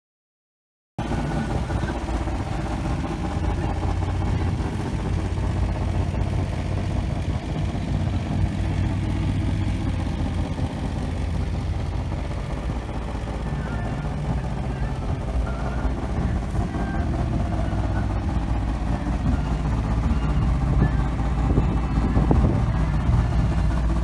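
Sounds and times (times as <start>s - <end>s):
vehicle engine idling: 1.0s - 24.0s.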